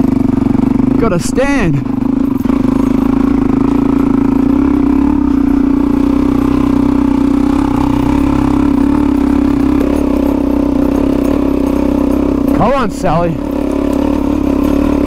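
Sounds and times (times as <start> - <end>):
dirt bike engine under load: 0.0 - 15.0.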